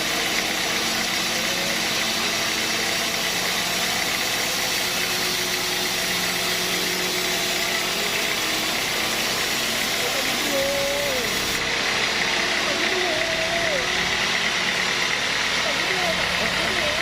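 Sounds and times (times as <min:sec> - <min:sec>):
sawmill machinery hum: 0:00.0 - 0:17.0.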